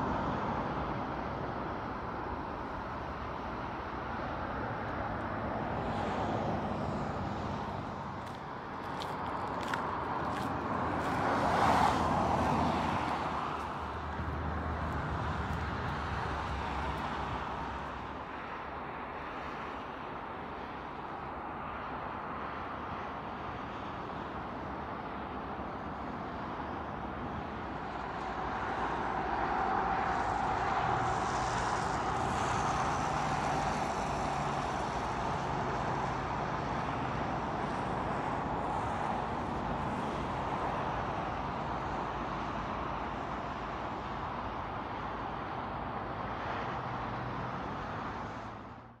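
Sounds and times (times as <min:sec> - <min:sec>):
distant traffic rushing: 0:00.0 - 0:49.0.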